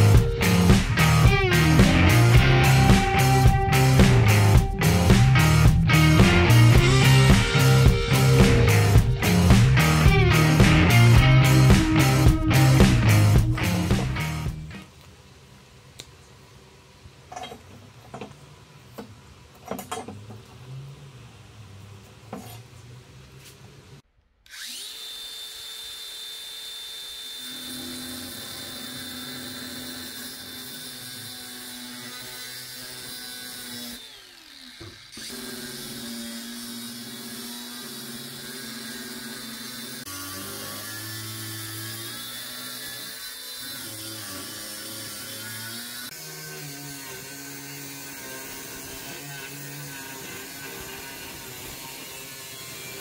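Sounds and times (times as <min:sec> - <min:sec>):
angle grinder cutting metal: 0:00.0 - 0:14.7, 0:24.5 - 0:53.0.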